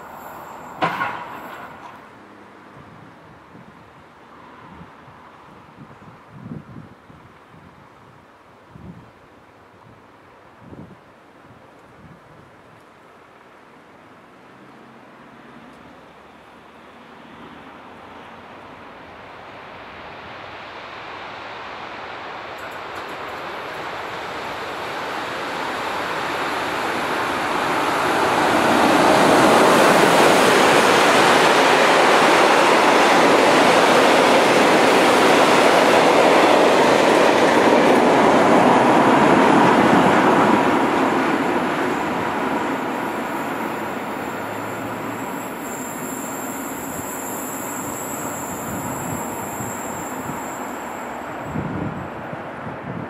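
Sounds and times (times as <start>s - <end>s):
freight train passing: 0.0s - 6.8s, 13.0s - 53.0s.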